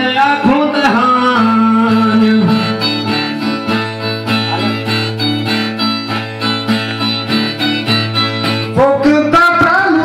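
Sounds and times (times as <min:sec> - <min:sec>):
person singing: 0:00.0 - 0:10.0.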